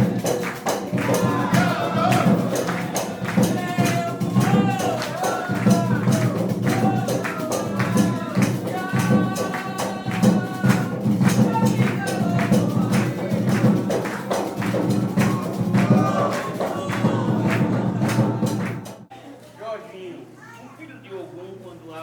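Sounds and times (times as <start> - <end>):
hand drum percussion: 0.0 - 19.1
voices singing ritual song: 0.0 - 19.1.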